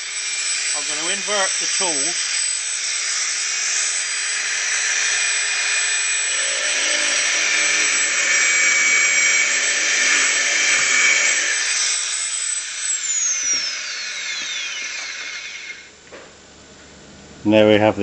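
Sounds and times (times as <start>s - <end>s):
wire stripper whirring: 0.0s - 16.2s.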